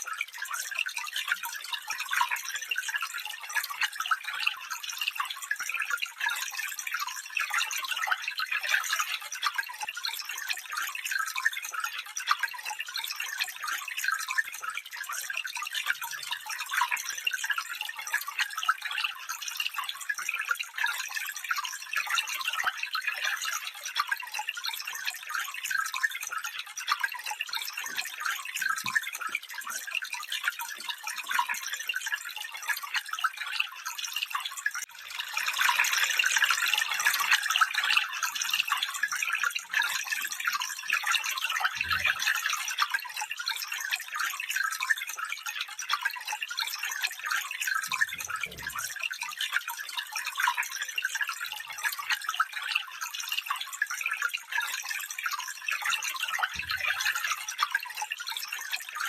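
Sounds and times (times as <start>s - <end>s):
stream trickling and bubbling: 0.0s - 59.0s.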